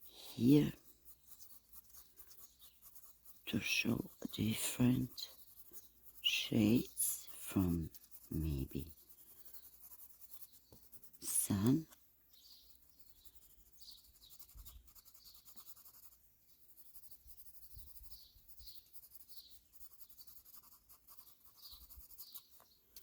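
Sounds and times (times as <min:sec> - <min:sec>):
pencil scratching on paper: 0:00.0 - 0:22.8
faint bird chirps: 0:00.0 - 0:23.0.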